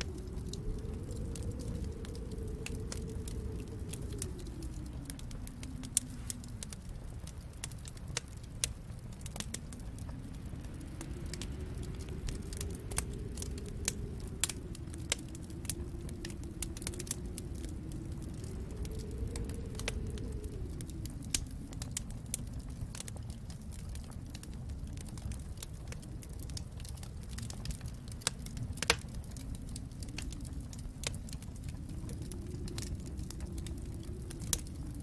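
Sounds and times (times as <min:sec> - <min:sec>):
sharp pops and snaps: 0:00.0 - 0:23.5, 0:25.9 - 0:35.0
low rumble: 0:00.0 - 0:35.0
wood fire crackling: 0:00.0 - 0:35.0.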